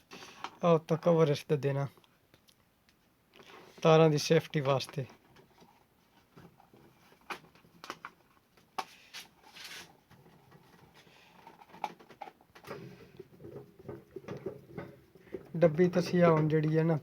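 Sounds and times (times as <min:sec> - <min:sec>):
plastic parts rustling: 0:03.4 - 0:17.0.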